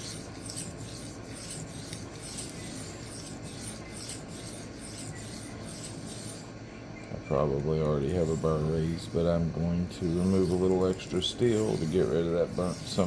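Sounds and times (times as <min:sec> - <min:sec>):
knife scraping on diamond plate: 0:00.0 - 0:06.5, 0:08.2 - 0:13.0.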